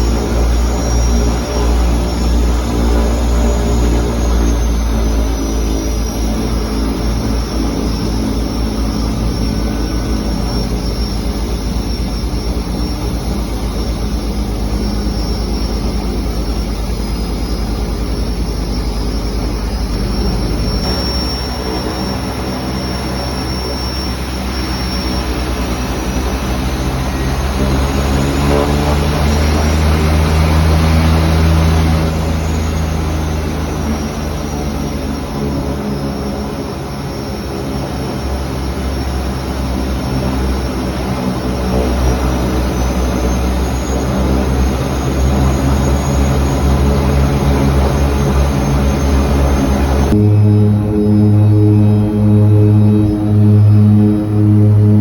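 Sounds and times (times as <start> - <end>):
turboprop engines running: 0.0 - 55.0.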